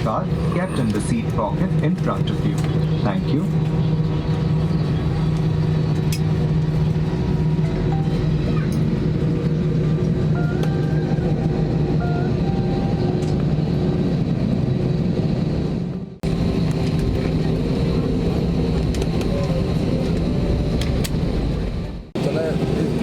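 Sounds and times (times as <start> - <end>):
airliner cabin engine hum: 0.0 - 23.0.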